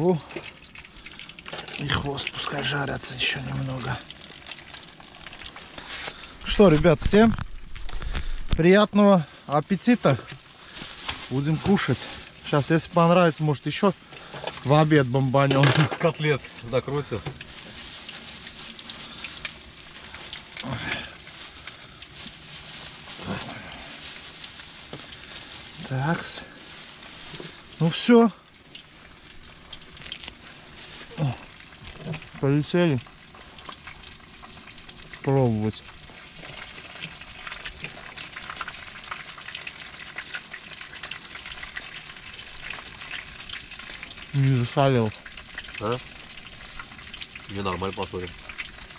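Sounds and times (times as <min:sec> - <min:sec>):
fish frying in oil: 0:00.0 - 0:48.9.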